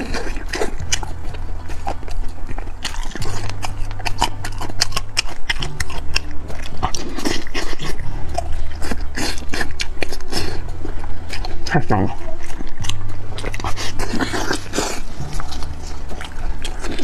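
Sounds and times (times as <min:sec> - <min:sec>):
wet mouth chewing smacks: 0:00.0 - 0:17.0.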